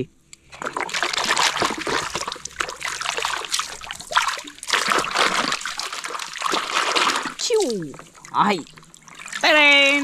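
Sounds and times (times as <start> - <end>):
water splashing and trickling: 0.5 - 10.0.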